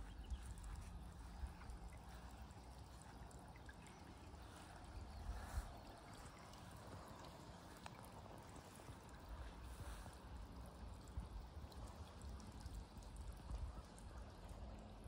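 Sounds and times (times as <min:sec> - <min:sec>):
fountain water trickling: 0:00.0 - 0:15.0.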